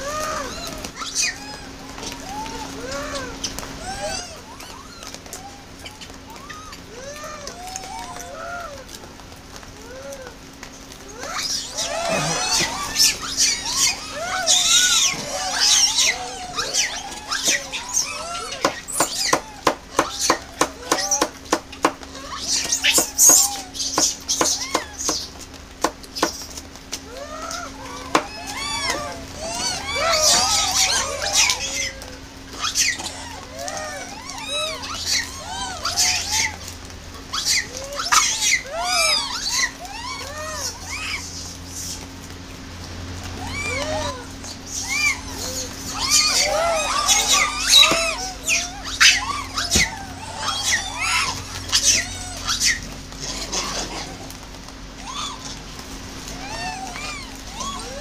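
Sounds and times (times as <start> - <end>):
monkeys squealing: 0.0 - 42.4, 43.2 - 58.0
monkeys chirping and cooing: 0.0 - 58.0.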